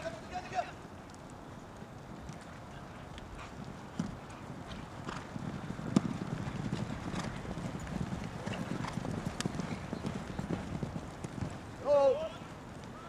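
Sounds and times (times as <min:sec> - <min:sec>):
hoofbeats on dirt: 0:00.0 - 0:13.0.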